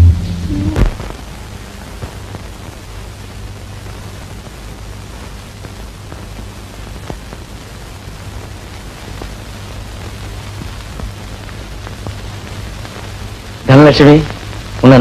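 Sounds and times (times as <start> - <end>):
film soundtrack hiss: 0.0 - 15.0
low electrical hum: 0.0 - 15.0.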